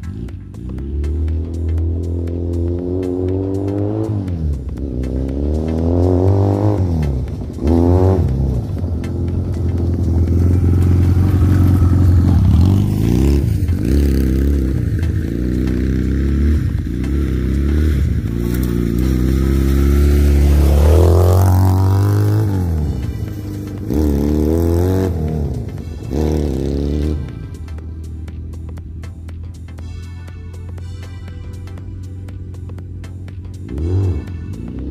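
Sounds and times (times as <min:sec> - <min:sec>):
quad bike engine under load: 0:00.0 - 0:29.8.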